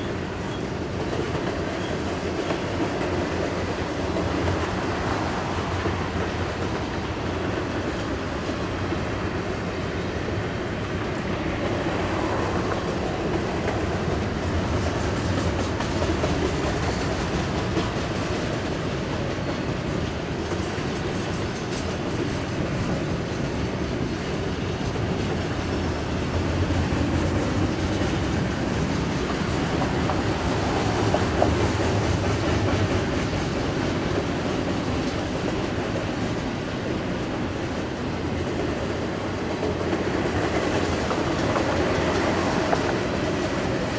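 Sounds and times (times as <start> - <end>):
train wheels on rails: 0.0 - 43.9.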